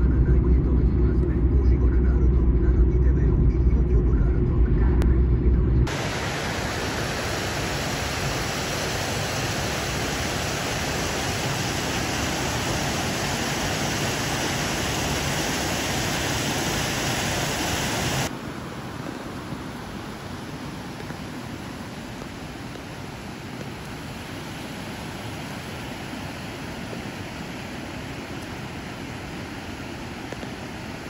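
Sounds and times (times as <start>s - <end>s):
mountain stream rushing: 5.9s - 31.0s.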